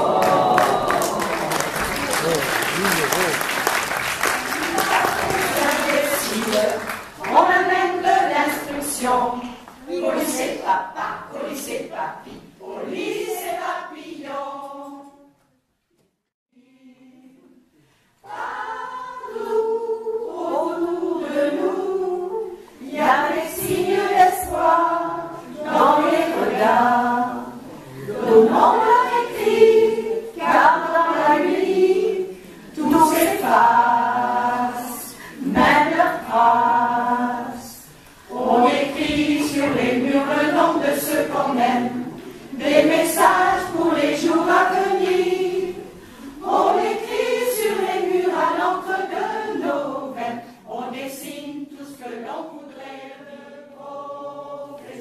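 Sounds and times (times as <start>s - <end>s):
choir singing: 0.0s - 15.4s, 16.6s - 55.0s.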